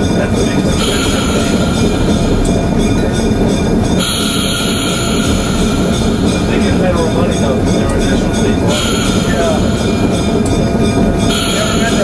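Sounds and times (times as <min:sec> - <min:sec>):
diesel locomotive rumbling: 0:00.0 - 0:12.0
wheels on rails: 0:00.0 - 0:12.0.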